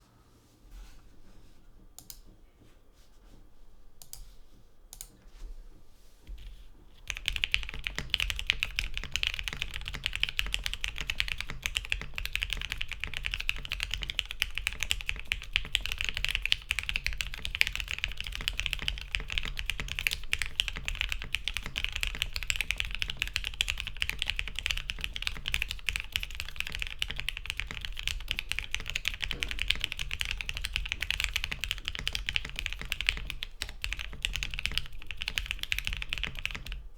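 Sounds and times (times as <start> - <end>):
typing on mechanical keyboard: 6.4 - 36.9.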